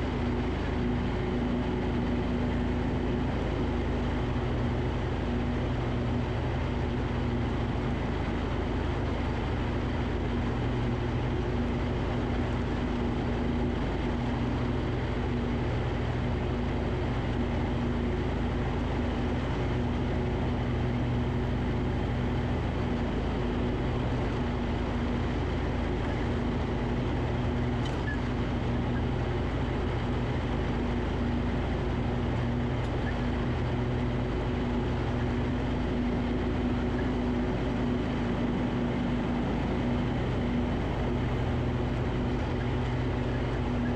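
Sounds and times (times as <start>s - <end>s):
lawn tractor engine mowing: 0.0s - 43.9s.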